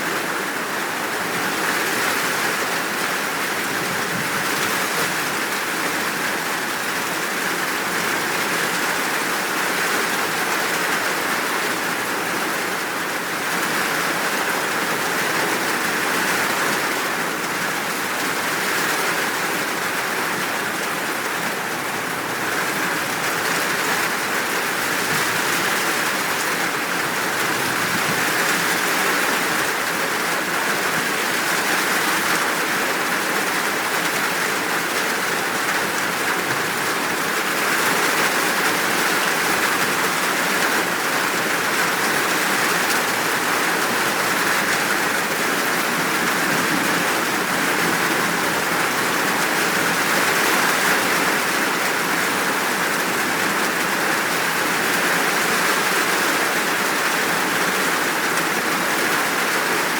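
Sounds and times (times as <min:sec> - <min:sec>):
steady downpour of rain: 0:00.0 - 0:59.9.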